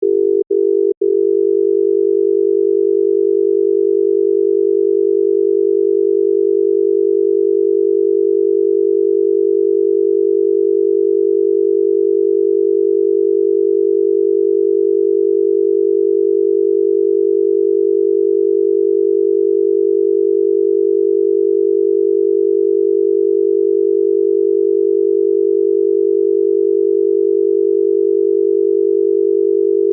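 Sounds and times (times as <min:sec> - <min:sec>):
pulsed low telephone dial tone: 0:00.0 - 0:29.9.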